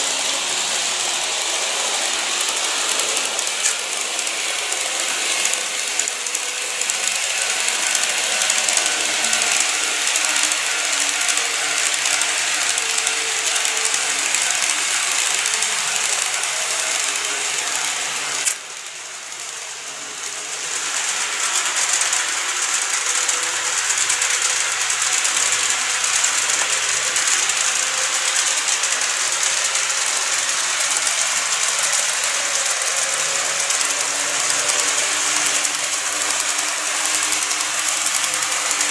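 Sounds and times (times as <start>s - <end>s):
model train wheels rattling: 0.0s - 38.9s.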